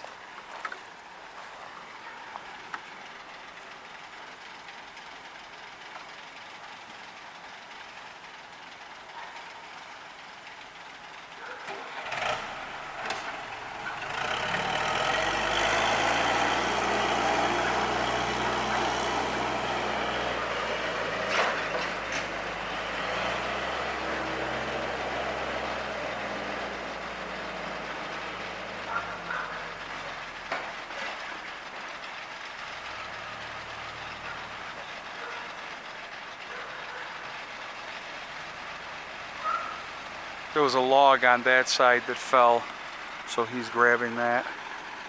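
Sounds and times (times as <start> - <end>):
engine knocks: 0.0 - 45.0
heavy machine diesel engine: 0.0 - 45.0.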